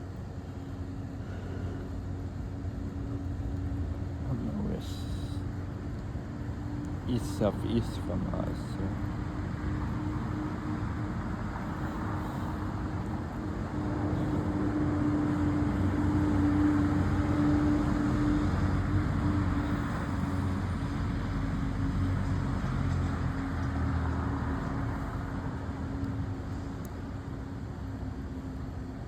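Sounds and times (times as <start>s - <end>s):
low traffic hum: 0.0s - 29.0s
vehicle passing: 0.7s - 28.7s.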